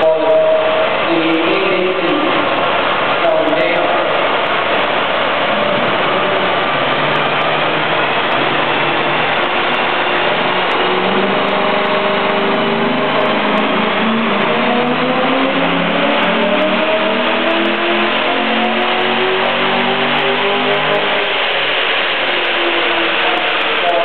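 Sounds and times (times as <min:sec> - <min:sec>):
engine revving under load: 0:04.1 - 0:24.0.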